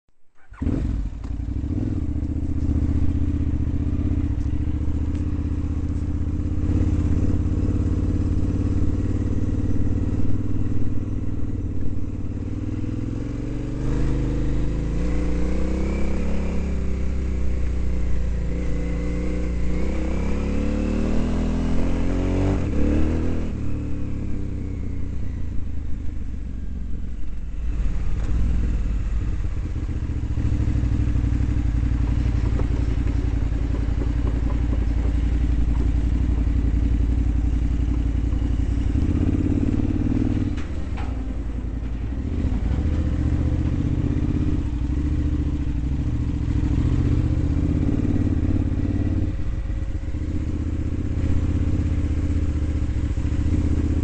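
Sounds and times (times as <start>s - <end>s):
motorcycle engine running: 0.4s - 54.0s.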